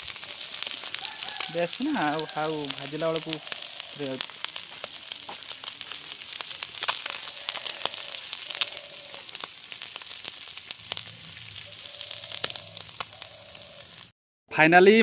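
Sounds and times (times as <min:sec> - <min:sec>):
fish sizzling in hot oil: 0:00.0 - 0:14.1
oil crackling pops: 0:00.0 - 0:14.1.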